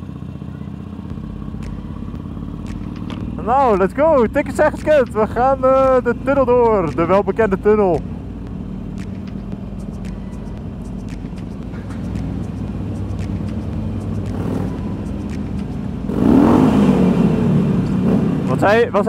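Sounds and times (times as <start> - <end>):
motorcycle engine revving: 0.0 - 19.0
motorcycle engines running in tunnel: 0.0 - 19.0.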